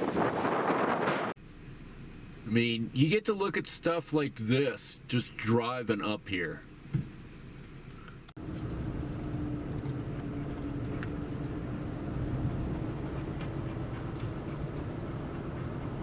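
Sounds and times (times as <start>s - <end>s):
car road and engine noise: 0.0s - 3.1s, 6.1s - 16.0s.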